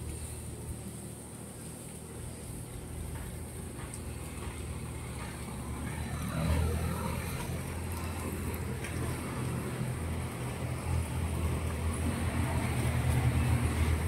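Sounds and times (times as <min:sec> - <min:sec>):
vehicle engine running: 0:02.1 - 0:14.0.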